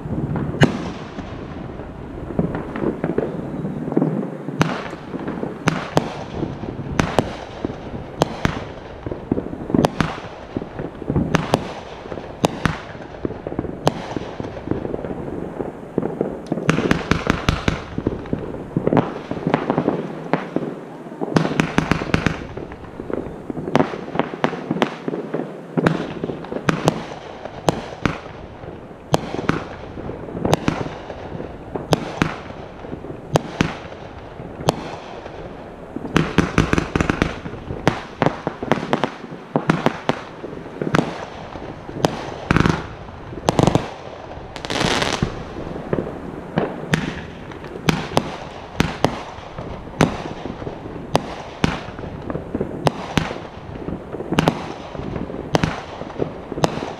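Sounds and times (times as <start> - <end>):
fireworks bangs and pops: 0.0 - 56.9.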